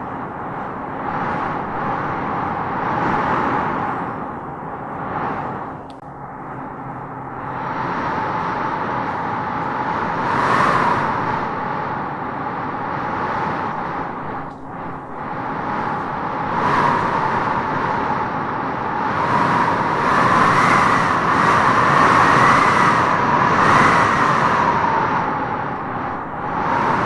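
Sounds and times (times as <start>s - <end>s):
wind howling in gusts: 0.0s - 27.0s.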